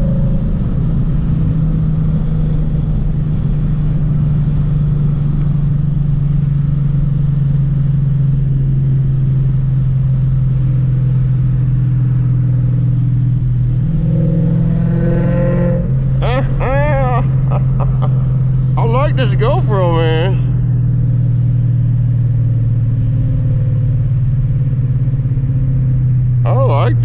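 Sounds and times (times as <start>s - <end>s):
car engine droning inside cabin: 0.0s - 27.0s.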